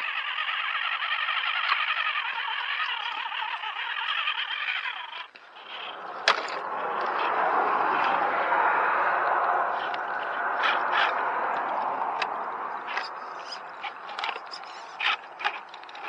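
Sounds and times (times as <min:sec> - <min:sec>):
toy truck electric motor whining: 0:00.0 - 0:09.0, 0:09.7 - 0:16.0.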